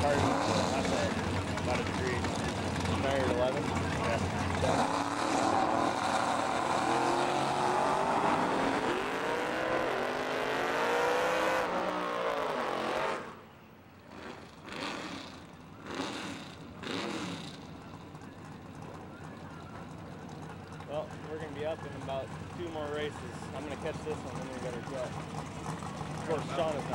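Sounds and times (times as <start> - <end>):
drag car engines revving: 0.0 - 26.9.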